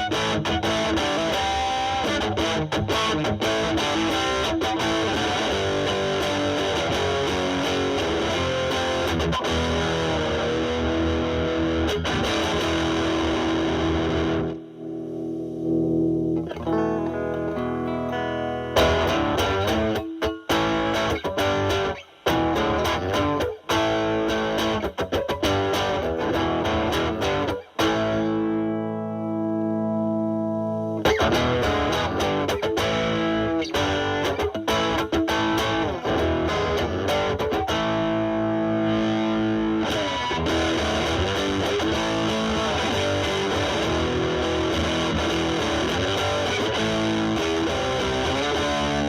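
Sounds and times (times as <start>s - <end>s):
distorted electric guitar chords: 0.0s - 49.0s
picked guitar notes: 0.0s - 49.0s.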